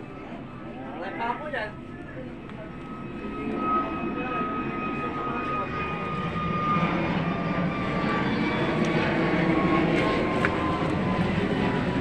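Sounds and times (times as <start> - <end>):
aircraft engine rumble: 0.0 - 12.0
high engine whine: 0.0 - 12.0.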